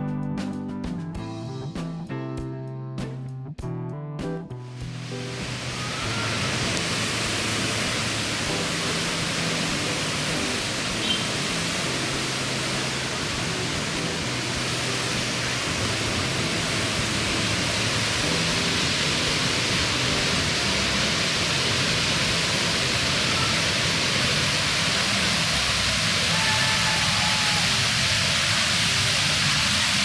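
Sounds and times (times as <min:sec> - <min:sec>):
waterfall rushing: 0:04.8 - 0:30.0.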